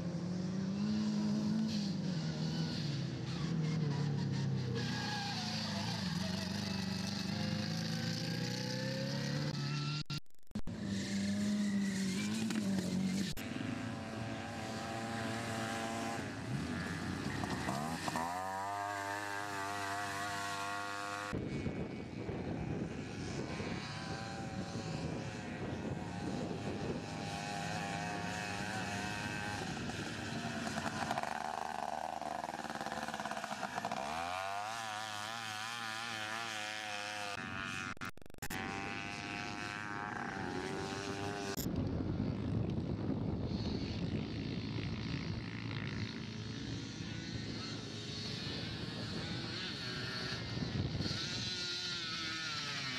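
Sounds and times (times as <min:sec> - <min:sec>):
small engines buzzing and revving: 0:00.0 - 0:52.9.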